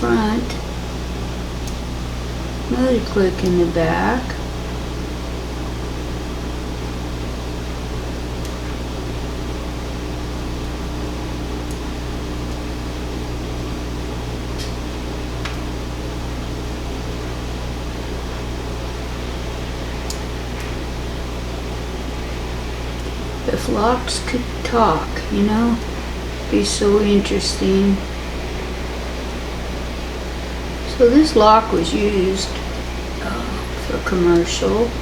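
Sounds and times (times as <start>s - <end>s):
laundry machine humming: 0.0s - 35.0s.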